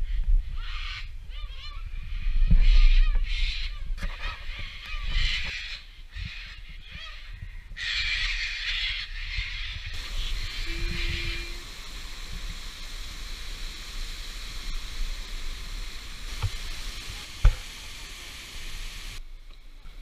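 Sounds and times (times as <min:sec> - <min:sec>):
wind rumbling on microphone: 0:00.0 - 0:08.4, 0:09.2 - 0:19.2
birds giving harsh calls: 0:00.5 - 0:19.2.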